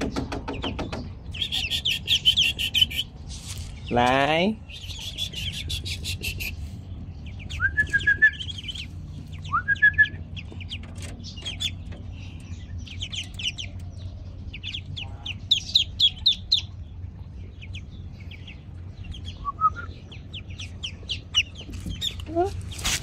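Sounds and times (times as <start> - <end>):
ducklings peeping: 0.0 - 23.0.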